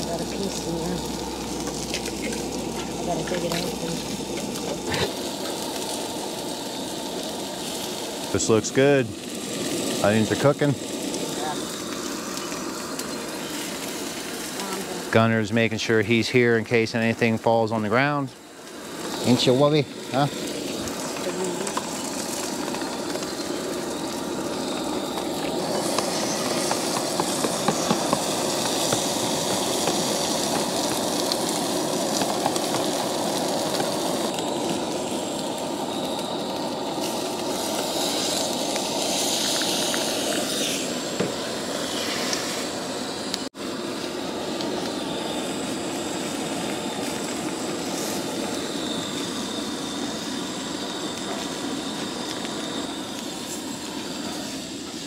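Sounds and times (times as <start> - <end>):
camp stove burner running: 0.0 - 55.0
eggs sizzling in a skillet: 0.0 - 55.0
utensil working eggs in pan: 0.0 - 55.0.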